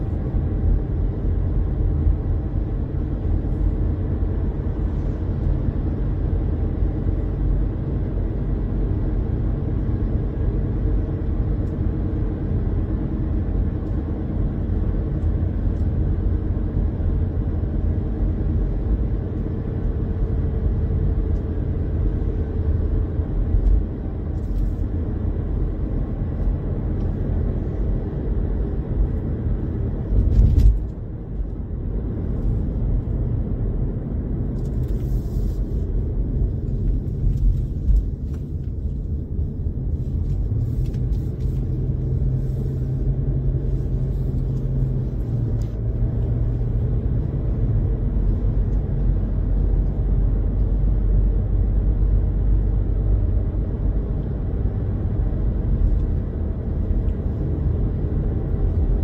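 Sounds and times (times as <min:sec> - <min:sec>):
road and engine rumble: 0:00.0 - 0:59.0.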